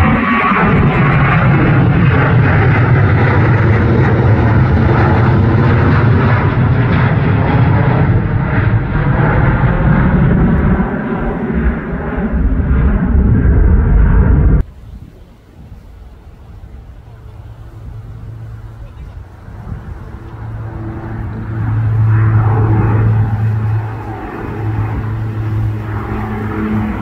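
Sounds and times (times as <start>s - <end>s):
jet engines at takeoff thrust: 0.0s - 27.0s.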